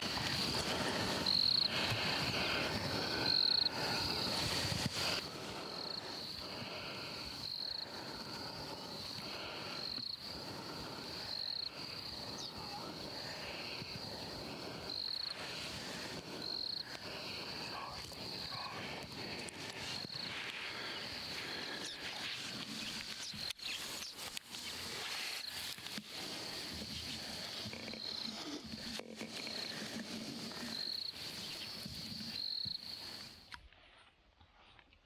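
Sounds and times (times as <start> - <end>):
insects trilling: 0.0 - 33.5.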